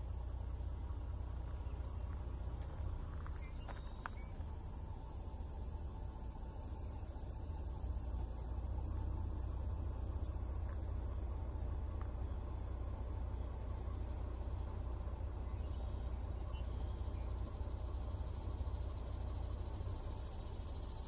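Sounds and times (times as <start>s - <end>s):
constant low rumble: 0.0s - 21.0s.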